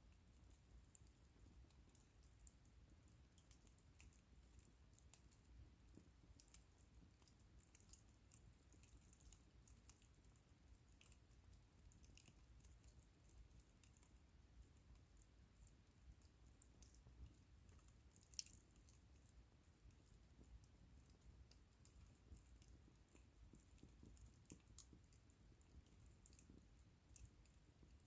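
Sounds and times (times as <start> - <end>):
low steady background: 0.0 - 28.0.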